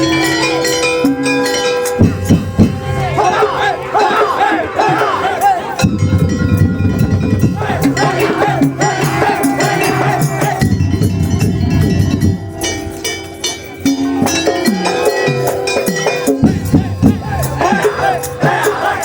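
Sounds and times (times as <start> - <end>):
percussion band drums: 0.0 - 19.0
wavering melody: 0.0 - 19.0.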